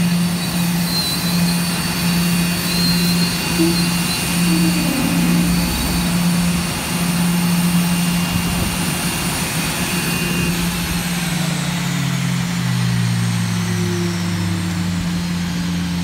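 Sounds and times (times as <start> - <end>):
jet engines whining: 0.0 - 16.0.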